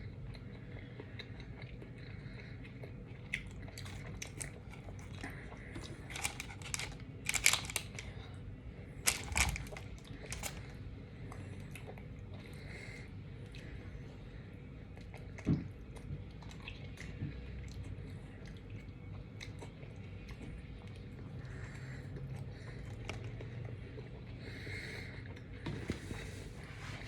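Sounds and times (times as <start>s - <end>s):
chewing and biting sandwich: 0.0s - 12.6s, 14.9s - 24.6s.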